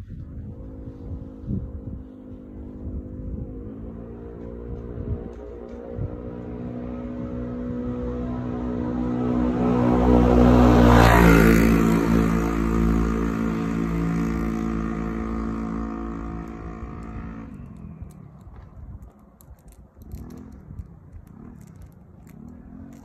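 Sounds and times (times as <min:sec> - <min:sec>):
vehicle engine passing by: 0:00.0 - 0:19.0.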